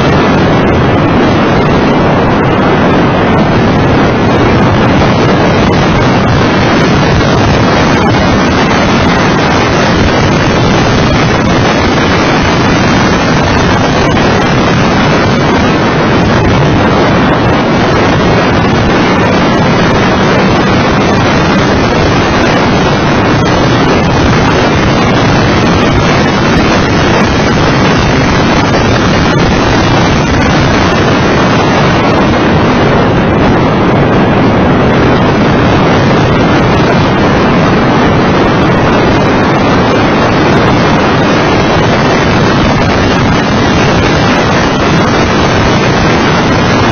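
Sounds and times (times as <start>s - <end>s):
car engine and road noise: 0.0s - 46.9s
wind buffeting microphone: 0.0s - 46.9s.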